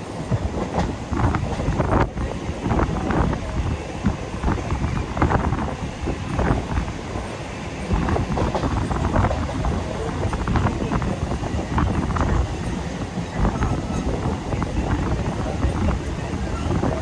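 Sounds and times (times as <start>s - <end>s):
electric train rumbling on track: 0.0s - 17.0s.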